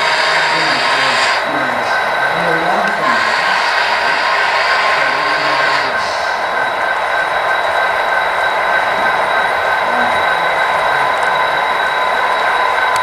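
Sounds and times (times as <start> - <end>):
model trains whirring on track: 0.0 - 13.0.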